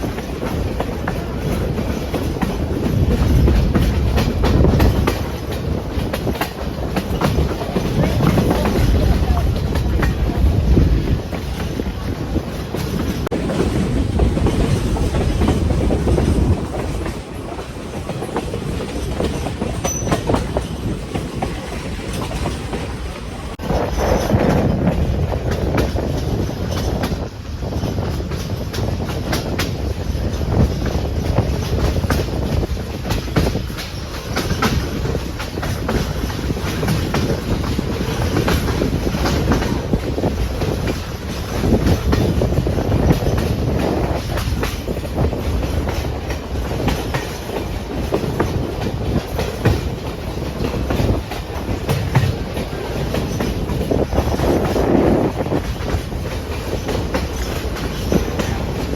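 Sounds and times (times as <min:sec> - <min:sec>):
train rumbling on track: 0:00.0 - 0:58.9
wheels clicking over rail joints: 0:00.0 - 0:58.9.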